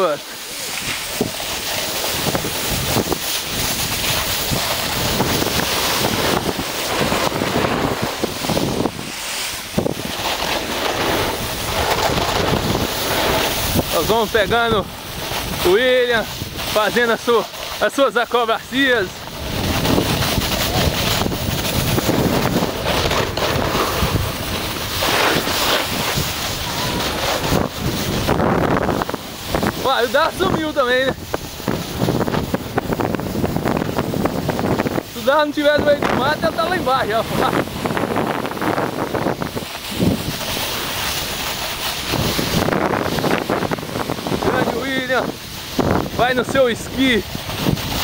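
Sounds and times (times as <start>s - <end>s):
skis sliding over snow: 0.0s - 48.0s
wind rushing over microphone: 0.0s - 48.0s.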